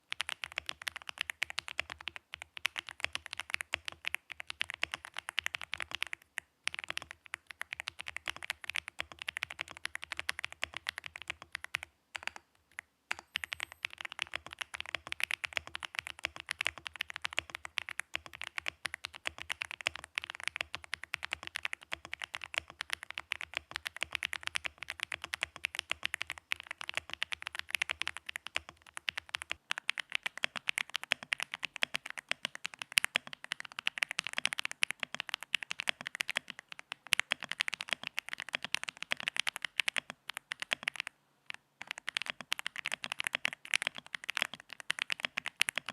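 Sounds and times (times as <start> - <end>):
fast mechanical keyboard typing: 0.0 - 12.4, 13.1 - 45.9.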